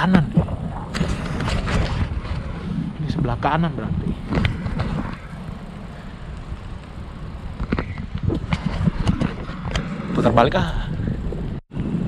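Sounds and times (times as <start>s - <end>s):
bicycle tyres rumbling on bricks: 0.0s - 12.0s
wind buffeting microphone: 0.0s - 12.0s.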